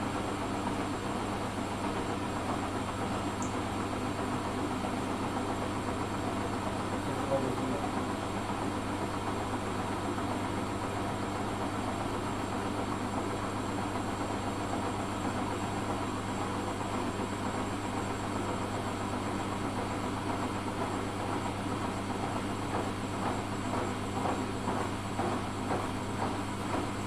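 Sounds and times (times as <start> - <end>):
washing machine humming: 0.0 - 27.0.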